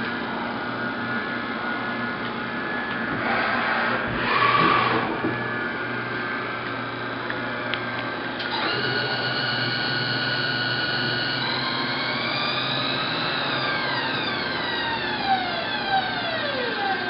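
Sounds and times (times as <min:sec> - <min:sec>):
high-pitched machine whine: 0:00.0 - 0:17.0
machine mechanical whir: 0:00.0 - 0:17.0.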